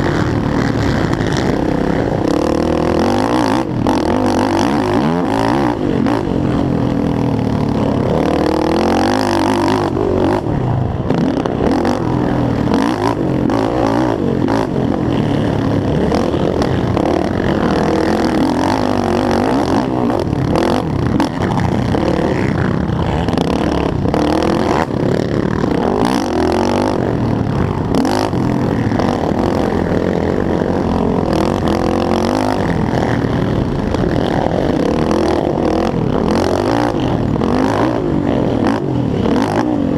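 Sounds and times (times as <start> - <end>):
quad engine revving hard: 0.0 - 39.9.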